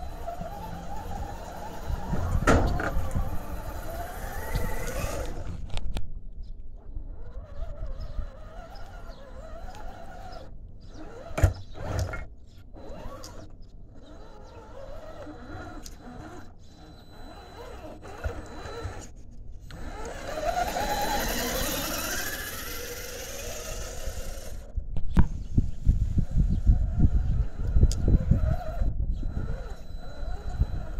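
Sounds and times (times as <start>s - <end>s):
electric motor whining: 0.0s - 5.8s, 7.1s - 24.8s, 26.1s - 30.9s.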